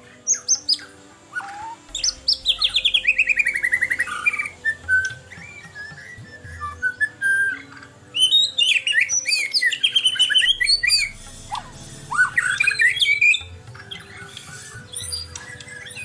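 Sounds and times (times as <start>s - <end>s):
bird singing sliding notes: 0.0s - 16.0s.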